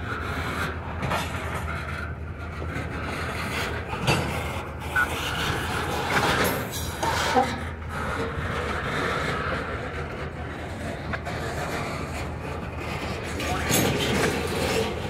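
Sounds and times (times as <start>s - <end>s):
rail cars rolling on track: 0.0s - 15.0s.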